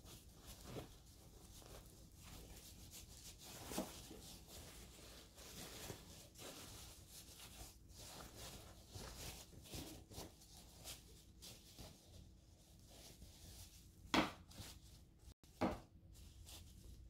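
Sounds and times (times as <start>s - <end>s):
fabric rustling: 0.0s - 15.3s.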